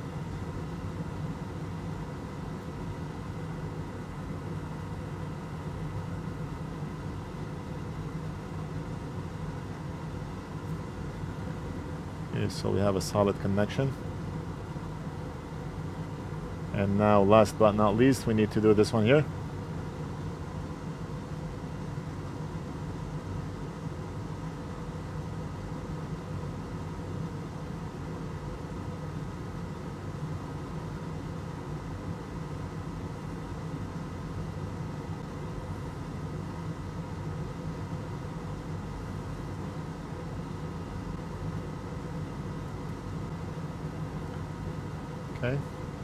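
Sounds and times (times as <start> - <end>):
steady machine hum with tones: 0.0 - 46.0.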